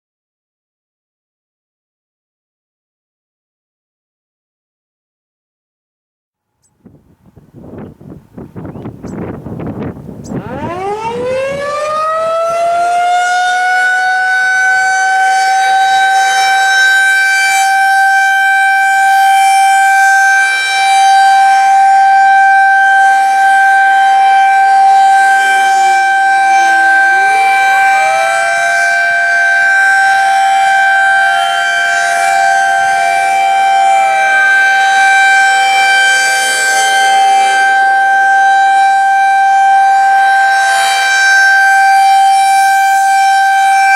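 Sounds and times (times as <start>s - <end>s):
high-pitched warning siren: 7.6s - 43.9s
fainter lower-pitched siren: 8.6s - 43.9s.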